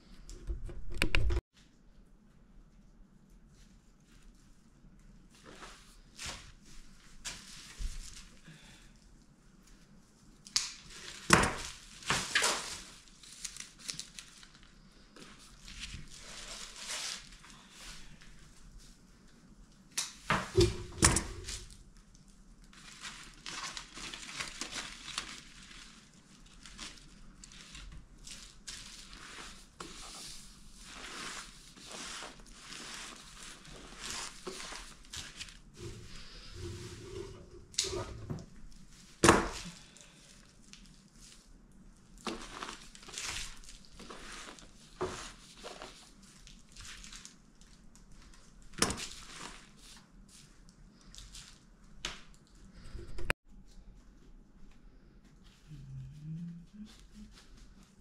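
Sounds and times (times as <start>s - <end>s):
craft materials crinkling and rustling: 2.7s - 56.0s.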